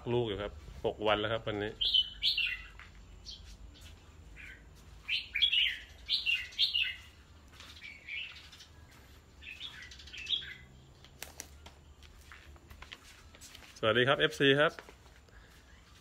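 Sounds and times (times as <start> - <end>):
bulbuls chirping: 0.0 - 16.0.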